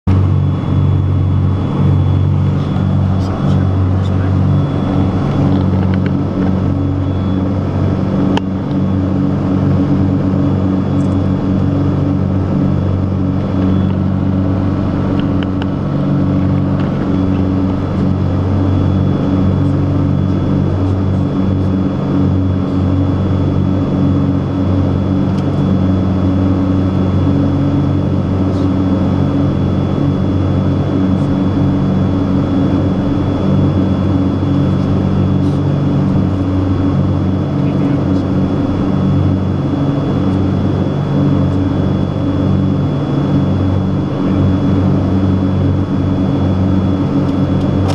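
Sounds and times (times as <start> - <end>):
aircraft engines droning in cabin: 0.0 - 47.9.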